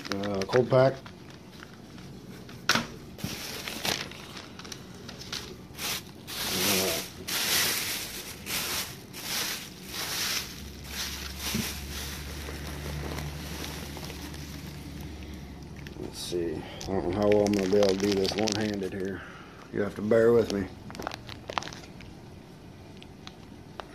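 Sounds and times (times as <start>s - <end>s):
plastic bags crinkling and rustling: 0.0s - 22.2s.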